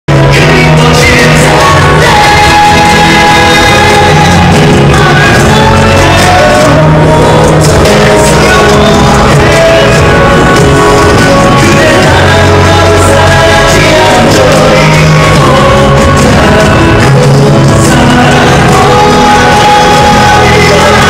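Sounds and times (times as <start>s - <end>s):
crowd noise: 0.0s - 21.0s
band accompaniment: 0.1s - 21.0s
man singing live pop: 0.1s - 21.0s.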